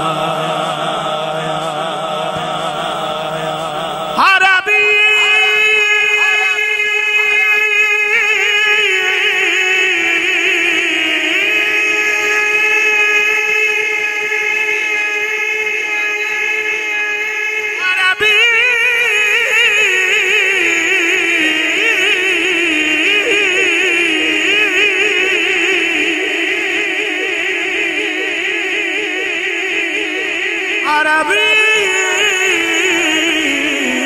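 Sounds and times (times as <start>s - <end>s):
man singing into microphone: 0.0s - 34.0s.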